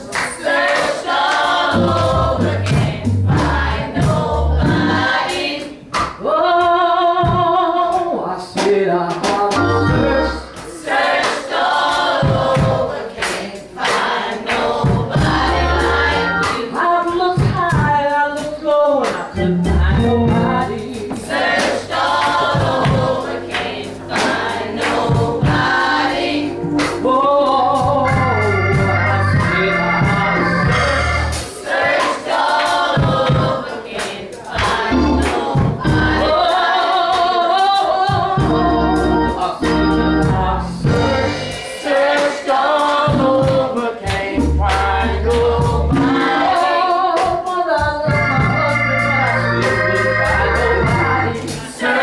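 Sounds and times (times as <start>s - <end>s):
sharp regular beats: 0.0s - 6.2s, 9.1s - 17.9s, 19.4s - 37.4s, 38.0s - 52.0s
gospel choir singing: 0.0s - 52.0s
lead voice singing: 0.0s - 52.0s
instrumental backing with bass: 0.6s - 6.2s, 7.2s - 13.0s, 13.7s - 33.8s, 34.4s - 52.0s.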